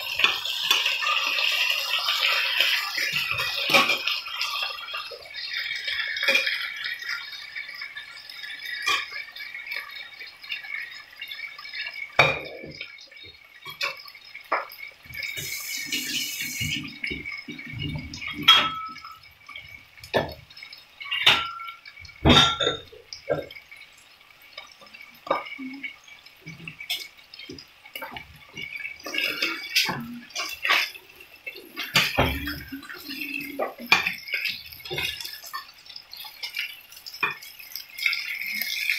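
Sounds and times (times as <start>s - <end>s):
steaks sizzling in a frying pan: 0.0s - 38.9s.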